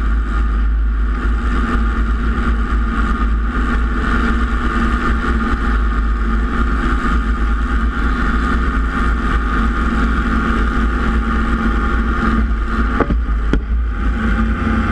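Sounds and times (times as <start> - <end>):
helicopter engine and rotor drone: 0.0 - 14.9.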